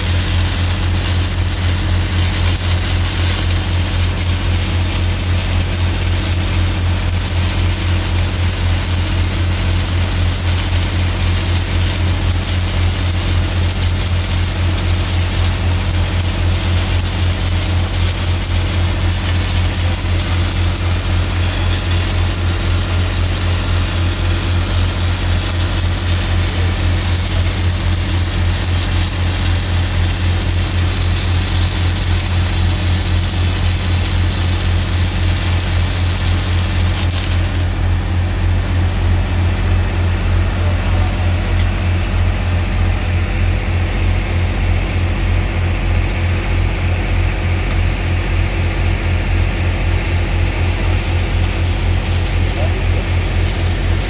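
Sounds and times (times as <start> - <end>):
welding arc hiss and crackle: 0.0 - 37.8, 45.6 - 54.0
welding generator engine running: 0.0 - 54.0.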